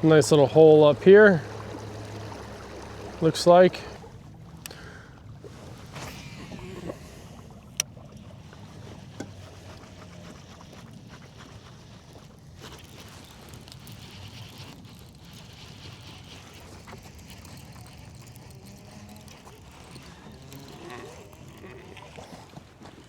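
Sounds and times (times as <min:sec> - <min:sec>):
water around kayak: 0:00.0 - 0:23.0
wind: 0:00.0 - 0:23.0.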